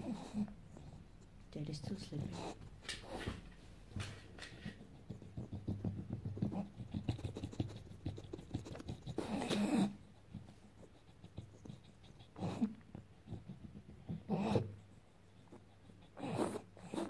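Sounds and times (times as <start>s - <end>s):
dog snuffling breaths: 0.0s - 17.0s
scratching and rustling blanket: 0.0s - 17.0s.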